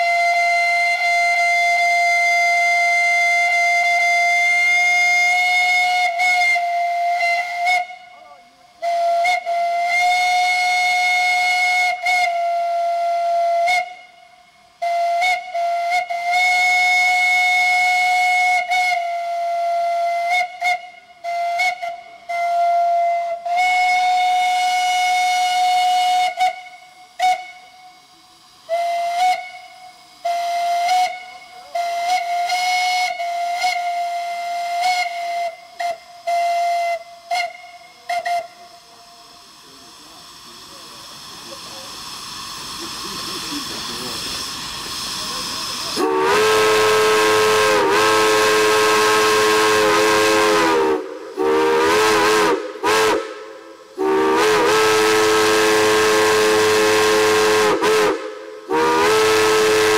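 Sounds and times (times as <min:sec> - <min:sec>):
steam whistle blasts: 0:00.0 - 0:41.2, 0:42.1 - 0:59.9.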